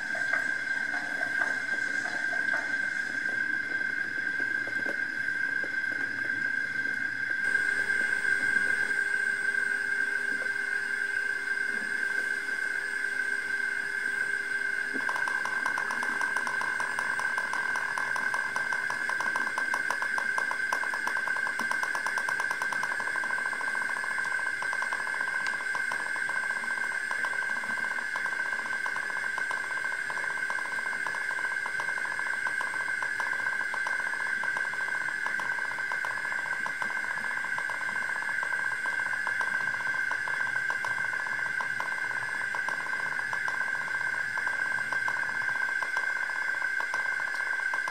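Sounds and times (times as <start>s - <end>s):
model train whine: 0.0s - 47.9s.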